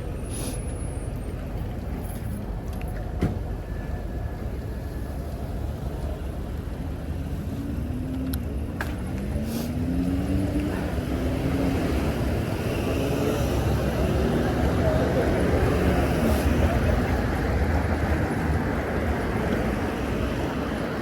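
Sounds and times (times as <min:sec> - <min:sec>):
street traffic rumbling: 0:00.0 - 0:21.0.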